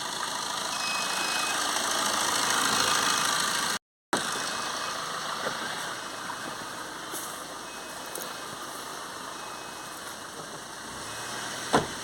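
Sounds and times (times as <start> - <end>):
car engine revving and idling: 0.0 - 9.5, 10.1 - 12.0.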